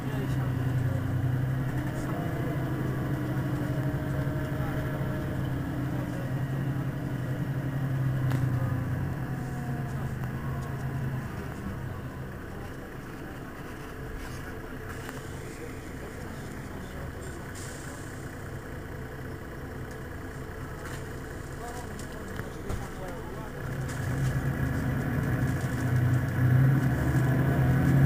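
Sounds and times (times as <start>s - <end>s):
bus diesel engine idling: 0.0s - 28.0s.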